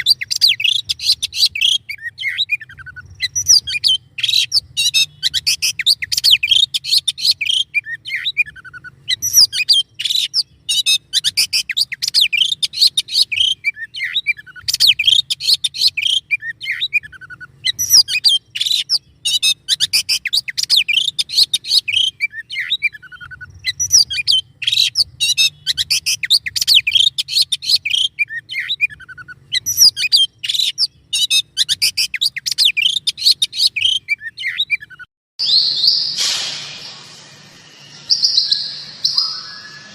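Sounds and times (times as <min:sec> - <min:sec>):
songbird singing chirps and trills: 0:00.0 - 0:36.0, 0:38.1 - 0:39.9.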